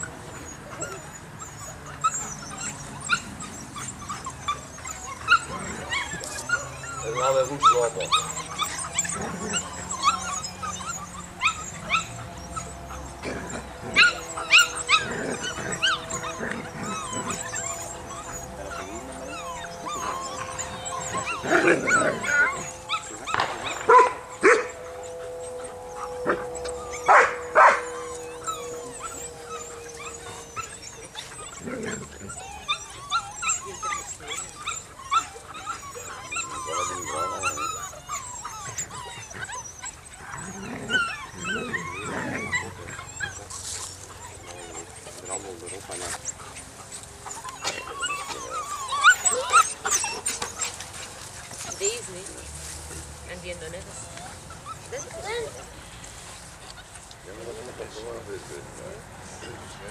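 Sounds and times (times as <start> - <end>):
puppies yipping and barking: 0.0 - 59.9.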